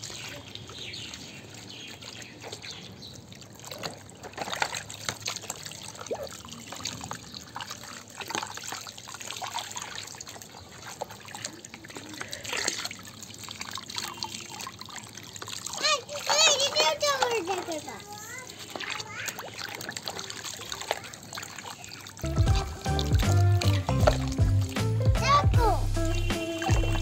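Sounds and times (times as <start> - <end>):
water trickling and splashing: 0.0 - 27.0.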